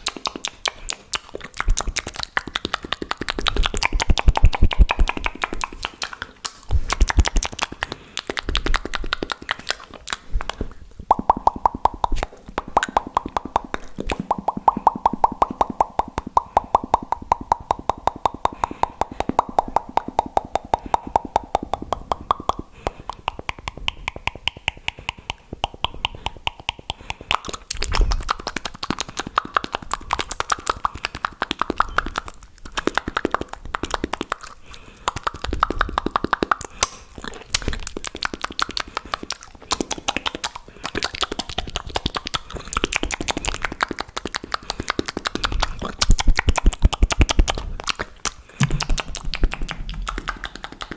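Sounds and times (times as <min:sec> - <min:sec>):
wet mouth clicks and pops: 0:00.0 - 0:50.9.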